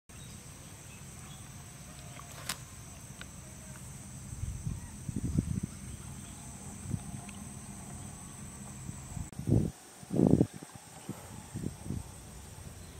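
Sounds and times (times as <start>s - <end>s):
high-pitched insect drone: 0.2s - 12.9s.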